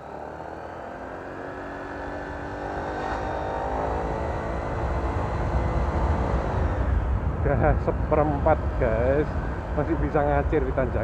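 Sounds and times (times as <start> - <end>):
scooter engine accelerating: 0.0 - 11.0.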